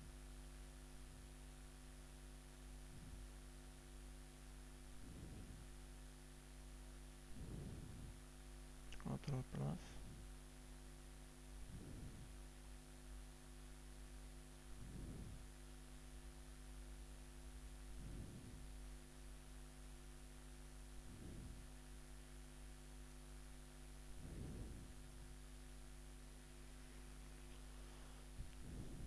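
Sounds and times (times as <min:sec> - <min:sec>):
electrical hum: 0:00.0 - 0:29.0
faint hiss: 0:00.0 - 0:29.0.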